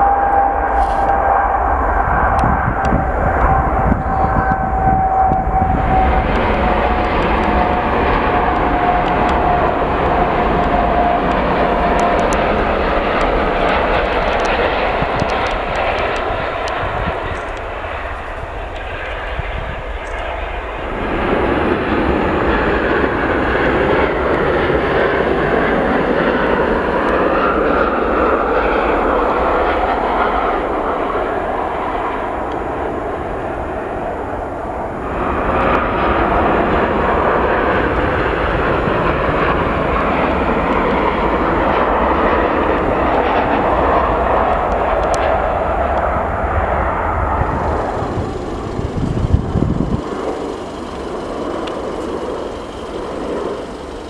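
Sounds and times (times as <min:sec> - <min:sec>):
jet engines roaring with whine: 0:00.0 - 0:54.0.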